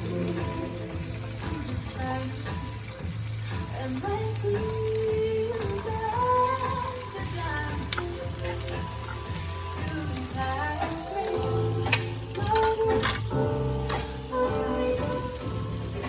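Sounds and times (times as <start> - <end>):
bacon sizzling in a pan: 0.0 - 16.0.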